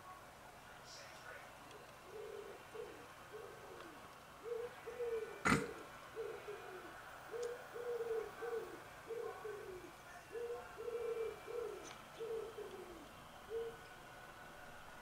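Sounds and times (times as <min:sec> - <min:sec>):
wood pigeon cooing: 0:01.7 - 0:13.9.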